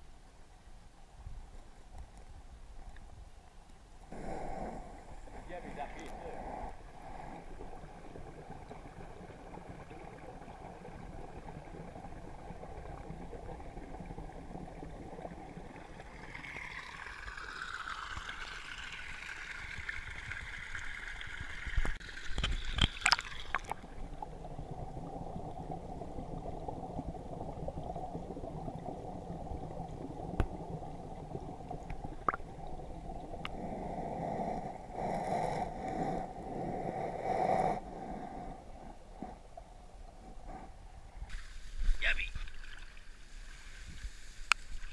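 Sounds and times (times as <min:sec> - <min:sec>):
muffled underwater water gurgle: 0:04.0 - 0:42.8.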